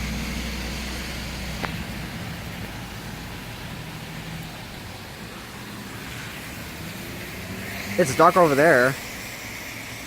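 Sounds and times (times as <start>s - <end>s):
car engine rumble: 0.0s - 10.0s
rain hiss: 0.0s - 10.0s
wind: 0.0s - 10.0s.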